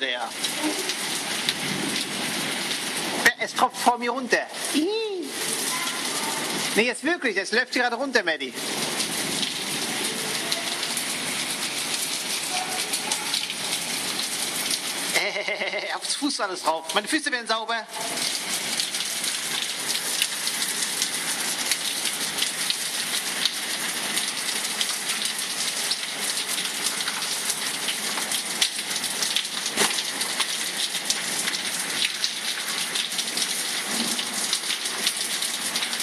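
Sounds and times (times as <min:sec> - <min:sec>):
rain drumming on canopy roof: 0:00.0 - 0:36.0.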